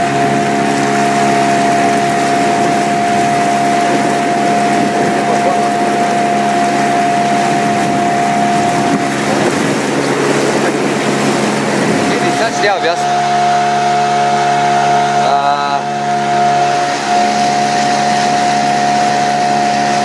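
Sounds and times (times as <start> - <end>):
engine humming steadily: 0.0 - 20.0
high engine tone: 0.0 - 20.0.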